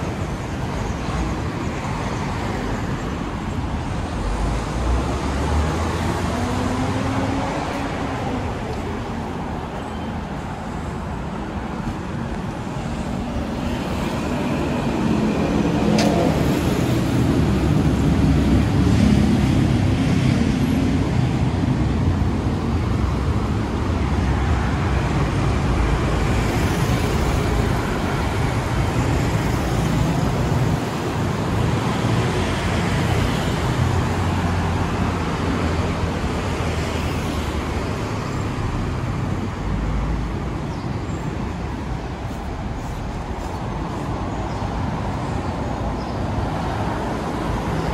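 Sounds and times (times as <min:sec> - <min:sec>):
car and bus engines: 0:00.0 - 0:47.9.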